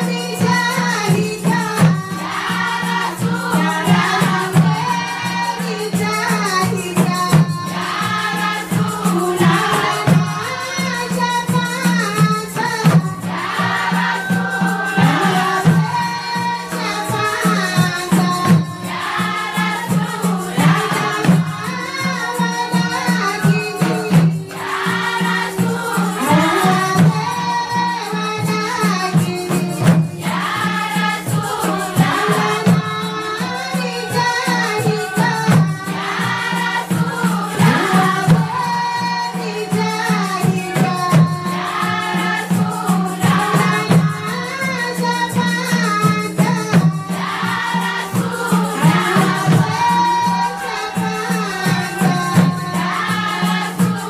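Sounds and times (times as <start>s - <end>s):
rhythmic shaking percussion: 0.0s - 54.0s
women singing in chorus: 0.0s - 54.0s.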